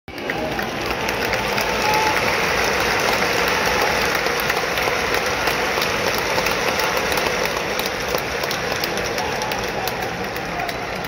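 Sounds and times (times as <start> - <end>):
stadium crowd roar: 0.1 - 11.0.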